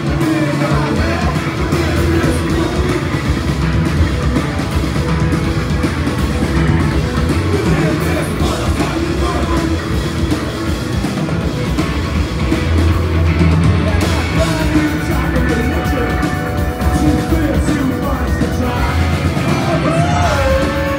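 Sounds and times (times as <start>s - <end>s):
bass guitar: 0.0s - 20.9s
drums: 0.0s - 20.9s
electric guitars: 0.0s - 20.9s.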